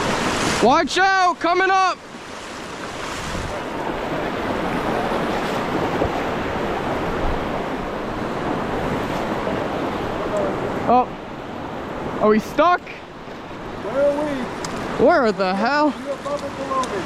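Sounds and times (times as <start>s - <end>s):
rushing river water: 0.0s - 17.0s.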